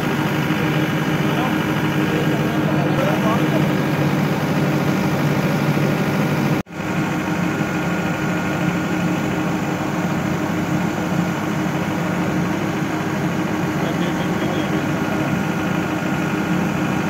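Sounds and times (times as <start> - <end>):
air rushing through fan inlet: 0.0 - 17.0
fan motor hum: 0.0 - 17.0.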